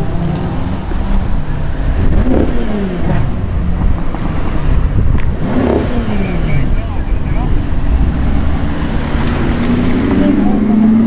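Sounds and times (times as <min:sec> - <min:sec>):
car engines rumbling: 0:00.0 - 0:11.0
cars driving past: 0:00.0 - 0:11.0.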